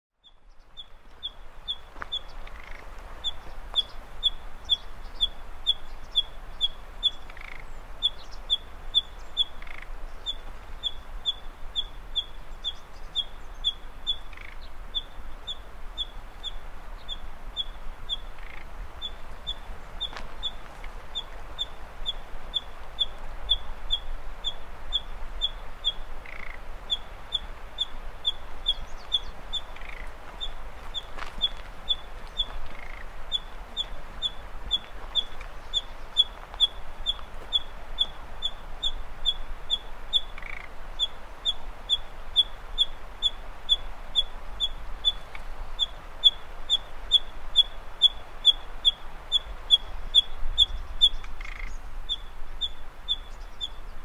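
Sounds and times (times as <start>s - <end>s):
nightingale calling: 0.2s - 54.0s.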